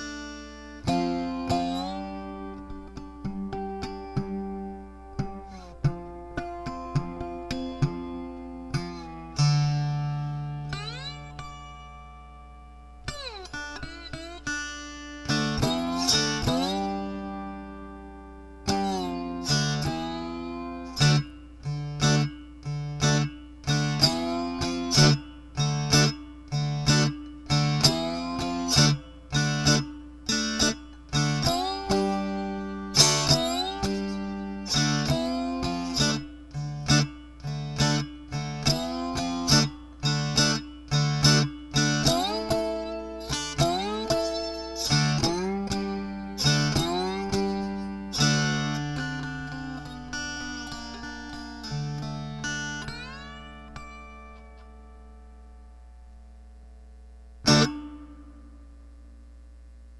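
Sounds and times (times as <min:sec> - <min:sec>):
amplified guitar picking with slides: 0:00.0 - 0:55.6, 0:57.4 - 0:58.6.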